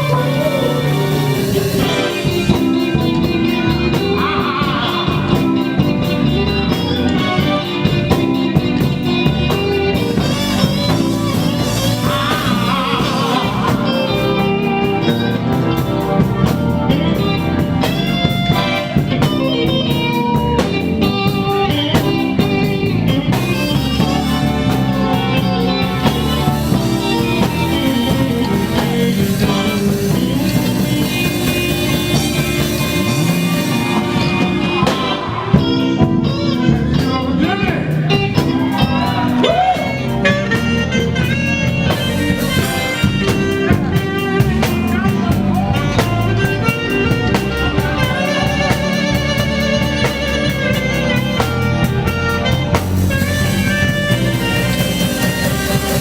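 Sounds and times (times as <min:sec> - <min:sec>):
lead guitar bending notes: 0:00.0 - 0:56.0
live blues band: 0:00.0 - 0:56.0.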